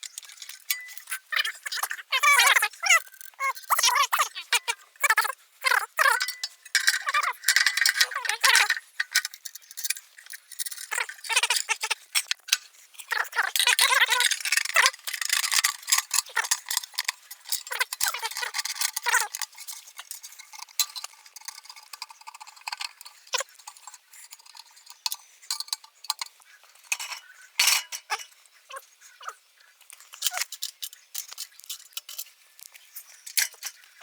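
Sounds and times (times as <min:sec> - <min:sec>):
metal parts and tools clinking: 0:00.0 - 0:28.3, 0:30.0 - 0:33.8.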